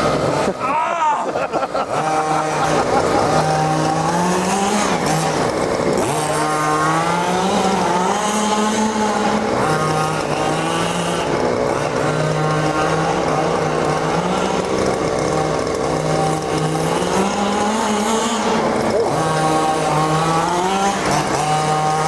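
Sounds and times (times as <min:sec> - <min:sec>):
two-stroke model car engine revving: 0:00.0 - 0:22.0.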